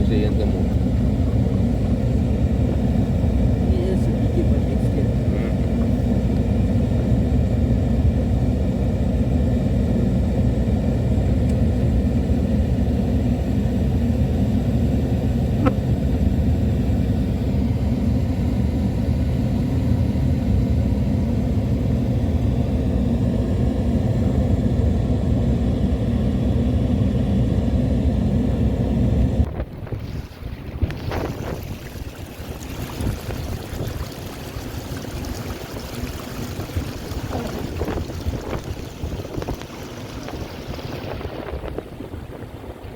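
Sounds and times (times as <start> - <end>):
road and engine rumble: 0.0 - 42.9.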